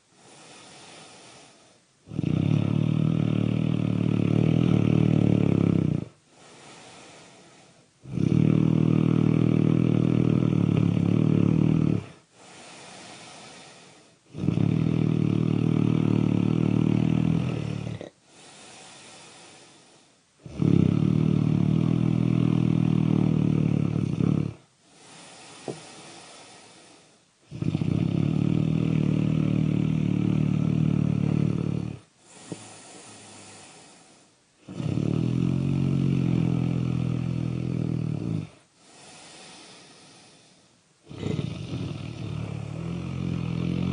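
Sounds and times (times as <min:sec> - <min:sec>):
loud snoring: 0:00.0 - 0:43.9.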